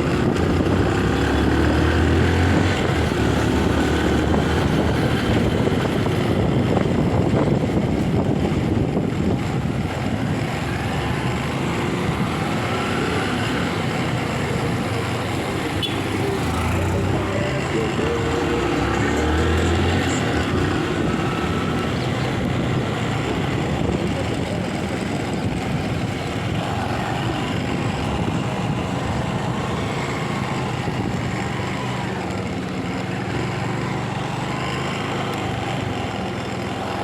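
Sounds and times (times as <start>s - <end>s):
motorcycle engine running: 0.0s - 37.0s
road and traffic noise: 0.0s - 37.0s.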